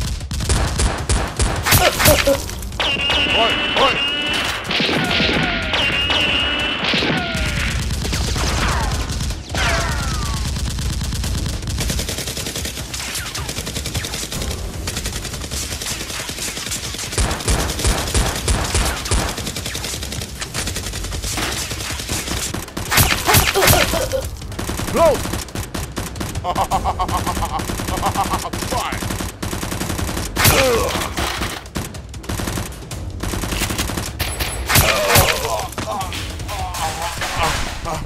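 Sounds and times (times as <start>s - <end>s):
rapid gunfire: 0.0s - 37.9s.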